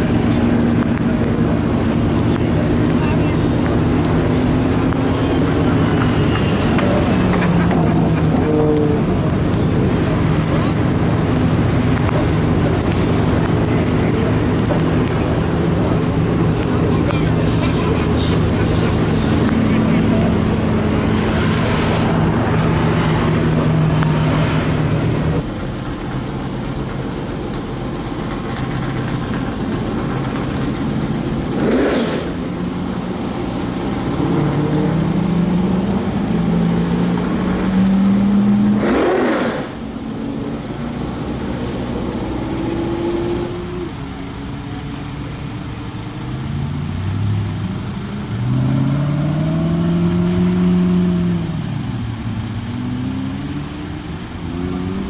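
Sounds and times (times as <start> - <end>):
tyres hissing on wet track: 0.0 - 36.5, 37.3 - 55.0
car engines accelerating past: 0.0 - 44.2.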